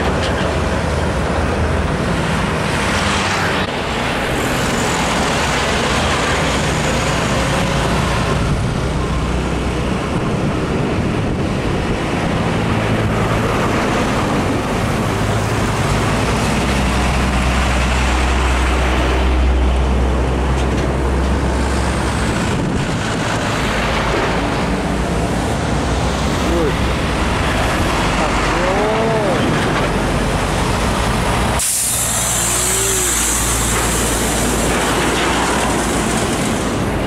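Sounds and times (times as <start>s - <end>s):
diesel trucks passing: 0.0s - 37.0s
tyre road noise: 0.0s - 37.0s.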